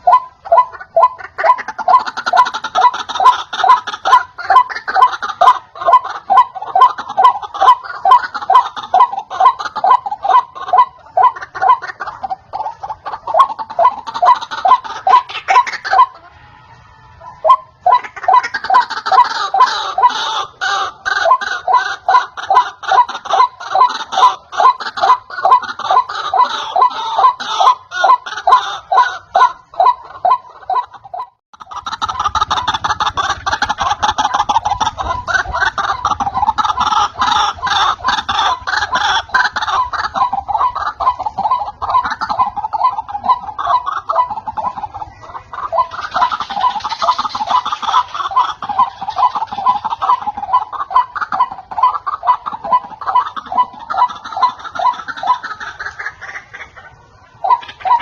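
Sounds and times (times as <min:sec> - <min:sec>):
waterhen harsh repeated calls: 0:00.0 - 0:58.0.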